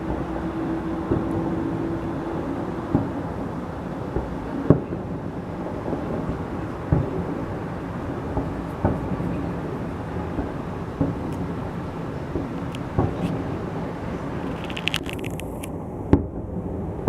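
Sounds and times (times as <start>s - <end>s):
firework shells booming: 0.0s - 17.0s
low rumble: 0.0s - 17.0s.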